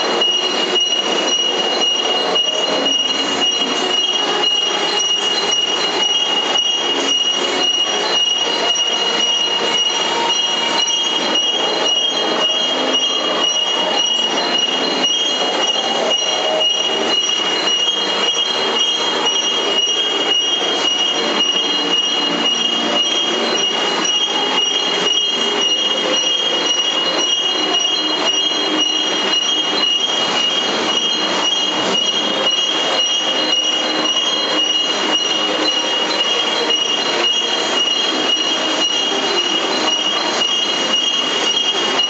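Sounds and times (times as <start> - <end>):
high-pitched machine whine: 0.0 - 42.0
industrial machinery noise: 0.0 - 42.0.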